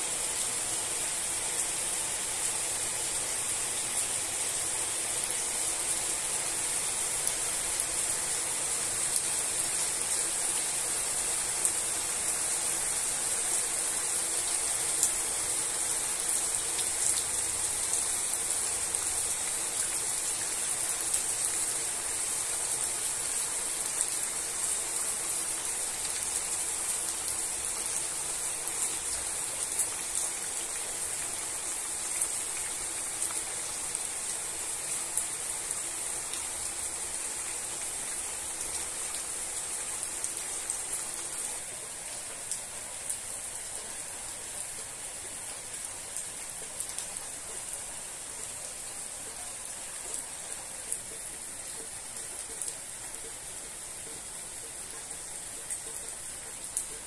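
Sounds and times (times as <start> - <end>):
rain on leaves and grass: 0.0 - 57.0.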